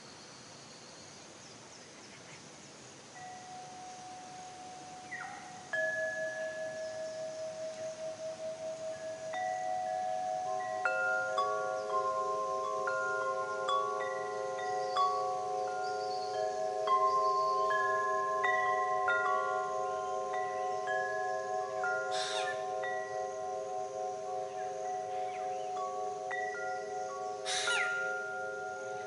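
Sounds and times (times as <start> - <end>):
wind chimes ringing: 3.1 - 29.0.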